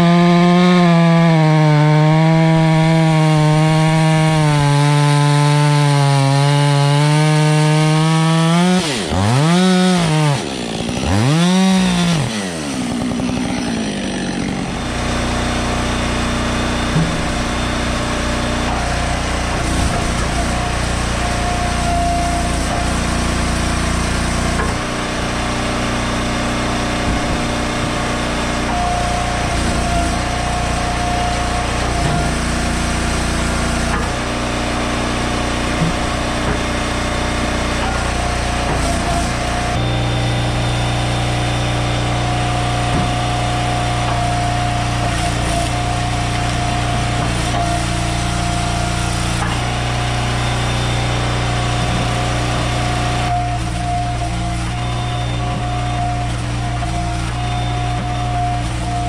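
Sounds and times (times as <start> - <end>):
small gasoline engine running: 1.8 - 59.0.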